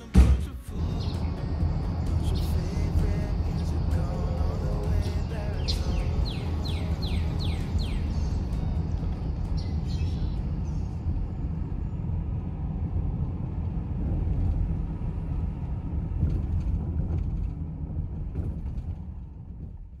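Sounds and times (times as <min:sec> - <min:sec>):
car engine rumble: 0:00.0 - 0:20.0
tyre noise on road: 0:00.0 - 0:20.0.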